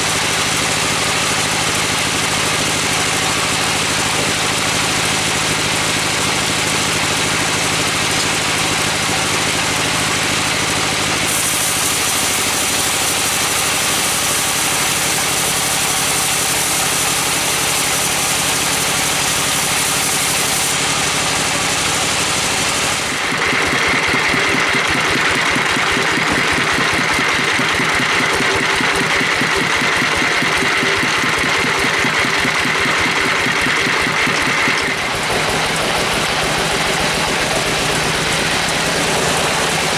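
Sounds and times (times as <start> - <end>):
sawing machinery engine running: 0.0 - 39.9.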